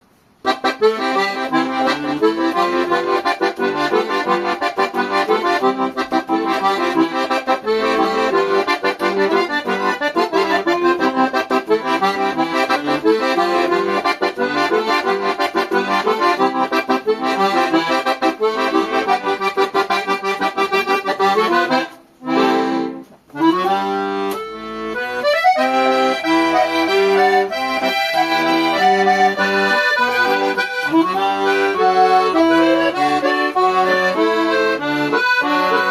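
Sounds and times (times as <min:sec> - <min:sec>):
accordion playing lively tune: 0:00.4 - 0:35.9.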